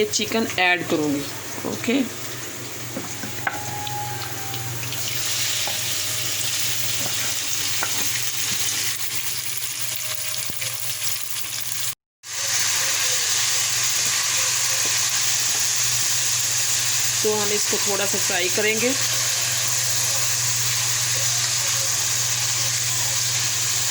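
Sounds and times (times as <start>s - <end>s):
chicken sizzling in hot oil: 0.2s - 23.9s.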